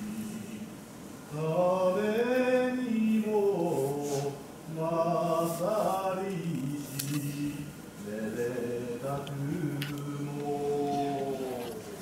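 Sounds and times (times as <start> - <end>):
man chanting: 1.4 - 12.0.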